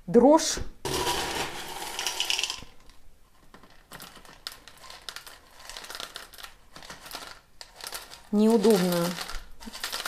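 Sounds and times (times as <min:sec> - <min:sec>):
clay pebbles poured into pot: 0:00.9 - 0:10.0.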